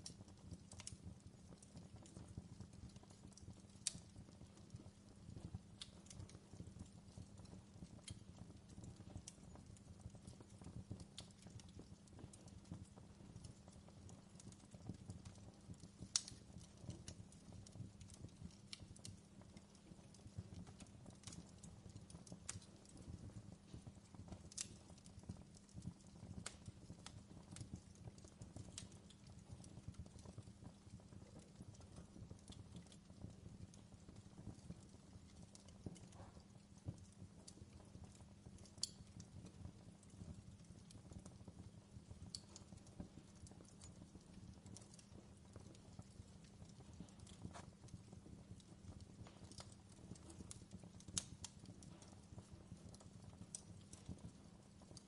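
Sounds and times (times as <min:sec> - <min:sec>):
fire popping: 0:00.0 - 0:55.0
fireplace crackling: 0:00.0 - 0:55.0.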